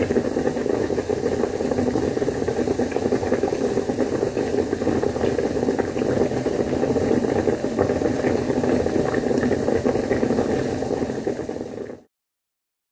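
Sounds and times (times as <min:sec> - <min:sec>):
water boiling in a pot: 0:00.0 - 0:12.1.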